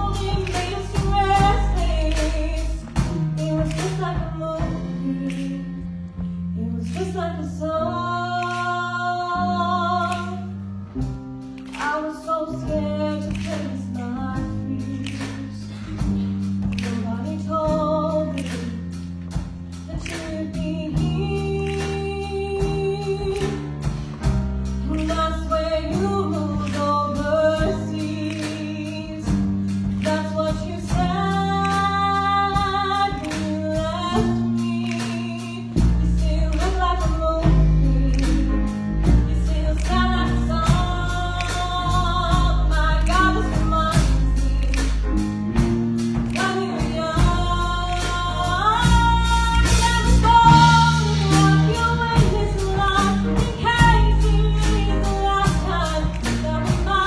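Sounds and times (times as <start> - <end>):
bass: 0.0 - 57.0
drums: 0.0 - 57.0.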